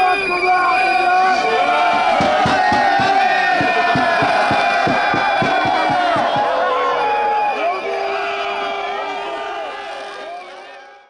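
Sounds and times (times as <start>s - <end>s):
crowd cheering and shouting: 0.0s - 11.0s.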